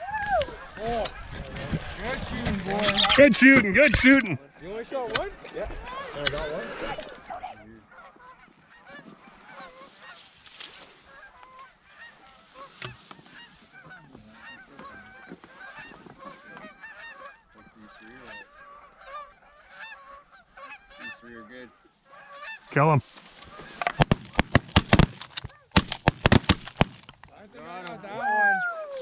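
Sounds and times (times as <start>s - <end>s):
geese honking and clucking: 0.4s - 4.4s, 5.1s - 29.0s.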